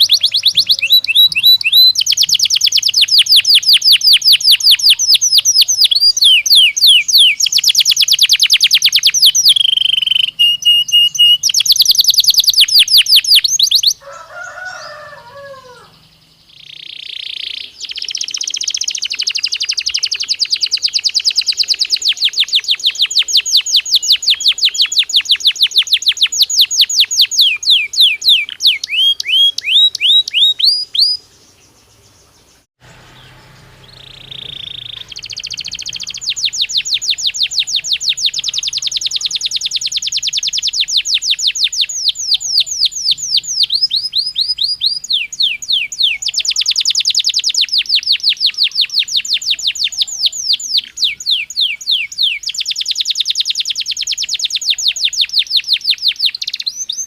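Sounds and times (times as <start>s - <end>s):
low bird warble: 0.0s - 55.3s
canary singing in trills: 0.0s - 57.0s.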